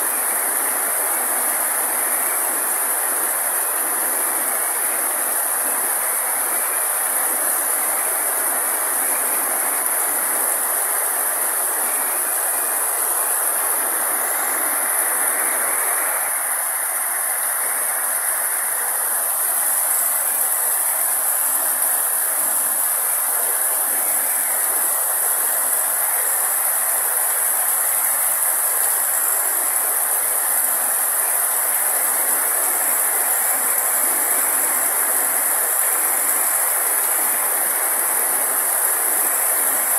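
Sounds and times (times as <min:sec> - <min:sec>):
rain falling on leaves and grass: 0:00.0 - 0:39.9.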